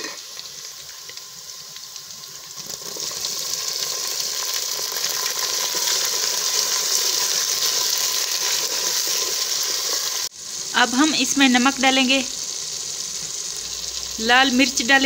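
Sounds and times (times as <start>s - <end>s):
vegetables sizzling in hot fat: 0.0s - 15.0s.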